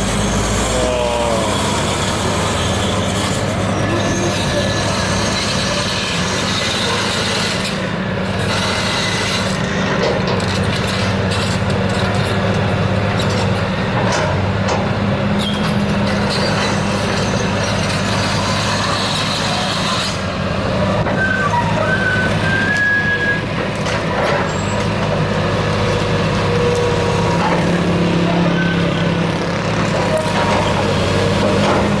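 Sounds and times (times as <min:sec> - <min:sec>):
diesel engines droning: 0:00.0 - 0:32.0.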